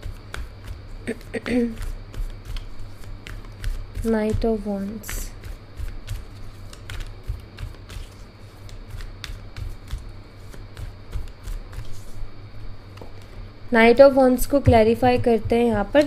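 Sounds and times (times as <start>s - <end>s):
cards being shuffled: 0.0s - 13.4s
low steady hum: 0.0s - 16.0s.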